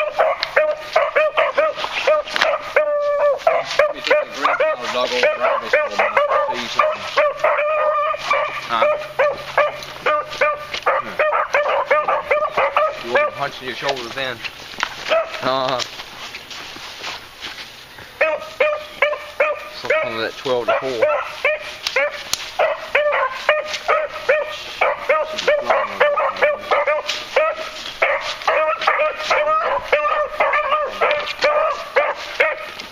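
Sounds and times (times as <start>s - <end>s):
beagles yelping: 0.0s - 13.9s, 15.0s - 15.5s, 18.2s - 32.9s
hounds baying: 0.0s - 14.3s, 14.9s - 15.8s, 18.1s - 32.9s.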